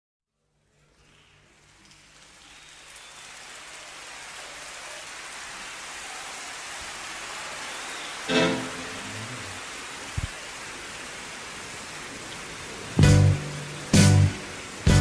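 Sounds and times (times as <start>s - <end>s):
rain-like hiss: 0.3s - 15.0s.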